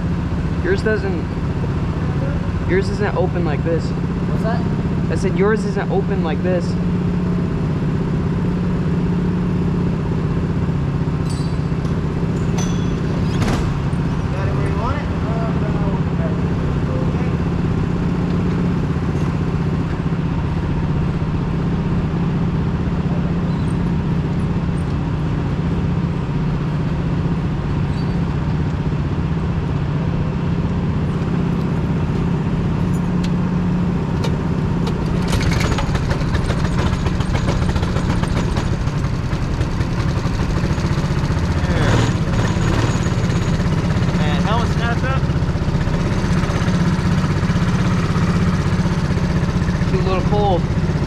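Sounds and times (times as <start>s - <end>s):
go-kart engine running: 0.0s - 51.0s.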